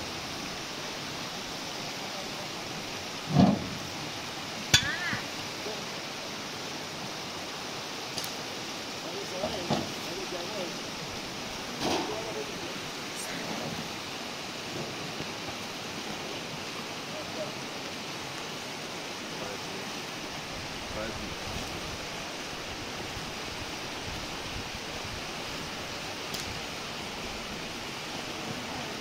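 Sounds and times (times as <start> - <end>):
river rushing: 0.0 - 29.0.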